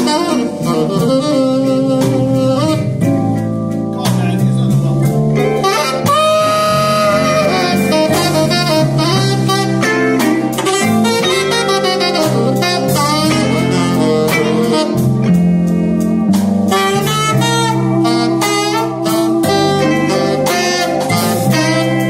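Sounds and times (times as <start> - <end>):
jazz blues band playing: 0.0 - 22.0
tenor saxophone lead: 0.0 - 22.0.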